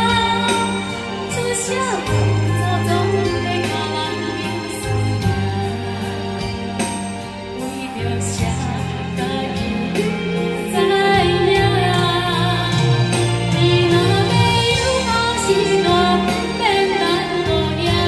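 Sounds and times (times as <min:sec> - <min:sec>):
karaoke backing track: 0:00.0 - 0:18.0
woman singing a ballad: 0:00.0 - 0:18.0.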